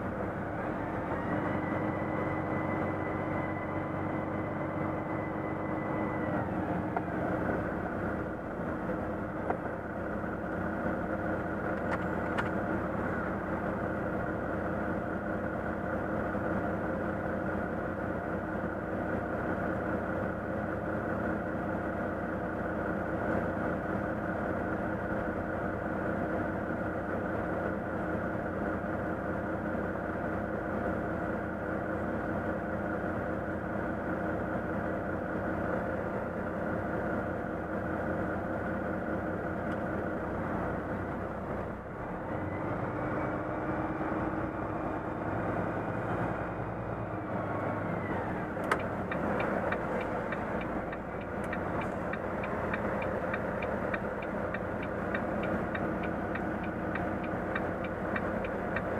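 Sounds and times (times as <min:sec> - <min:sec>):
truck diesel engine idling: 0:00.0 - 0:42.4, 0:43.4 - 0:58.9.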